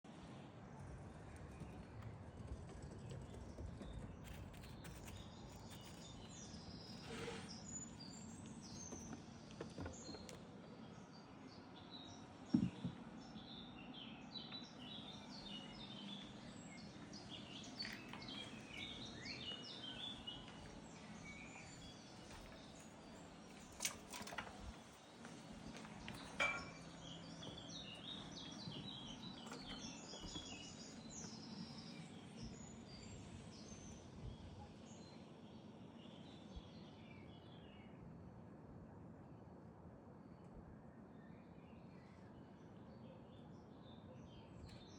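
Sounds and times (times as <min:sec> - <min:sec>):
outdoor background noise: 0:00.0 - 0:44.9
small birds chirping: 0:00.1 - 0:38.1.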